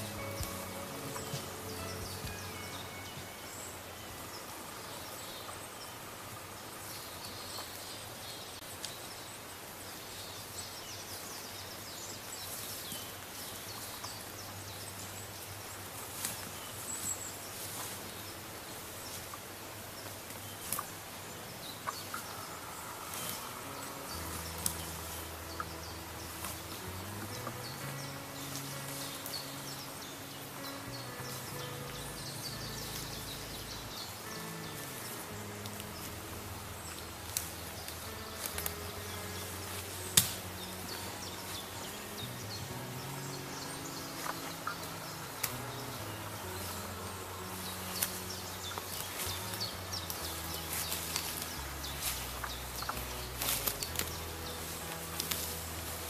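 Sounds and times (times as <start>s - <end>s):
faint insect calls: 0.0s - 56.0s
faint sustained music notes: 0.0s - 56.0s
outdoor hiss: 0.0s - 56.0s.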